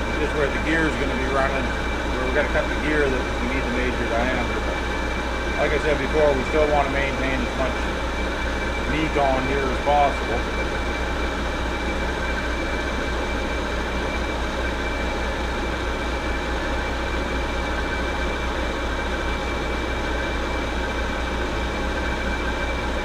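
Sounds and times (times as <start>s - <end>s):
metal lathe running: 0.0s - 23.0s.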